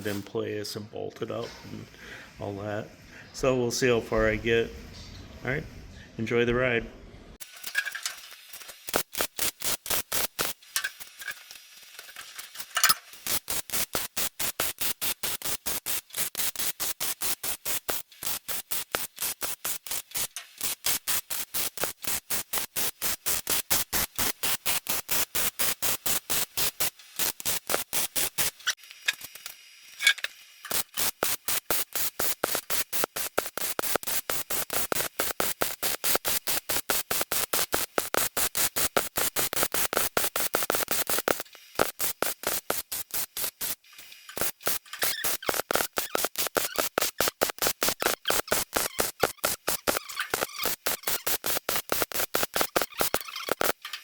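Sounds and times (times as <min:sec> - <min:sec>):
welding arc crackling: 0:07.4 - 0:54.0.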